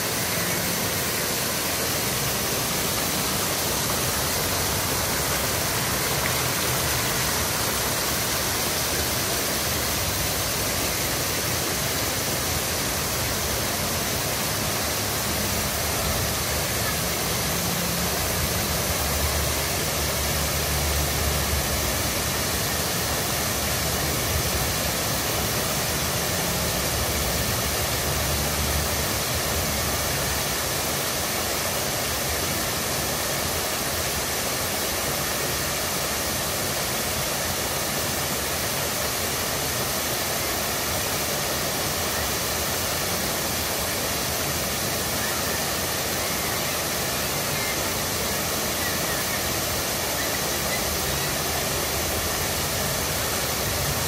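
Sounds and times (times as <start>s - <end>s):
fountain water rushing: 0.0s - 54.0s.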